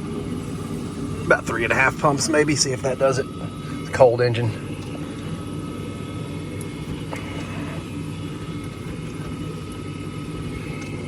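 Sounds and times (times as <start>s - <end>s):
propeller aircraft engine drone: 0.0s - 11.0s
thin steady whine: 0.0s - 11.0s.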